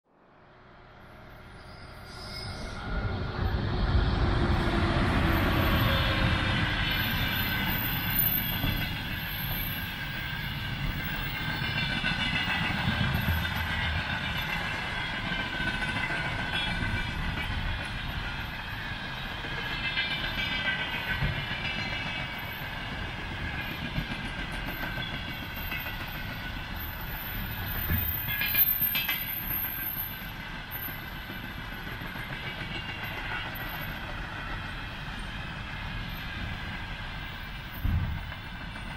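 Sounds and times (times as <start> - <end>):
train wheels clattering on rails: 3.6 - 38.9.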